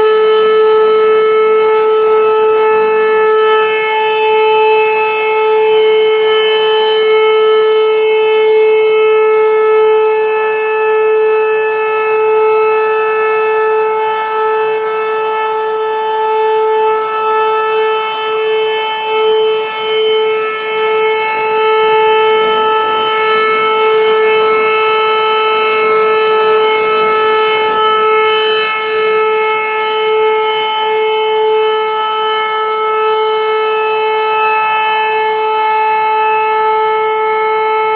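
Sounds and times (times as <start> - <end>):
fire siren steady high tone: 0.0 - 37.9.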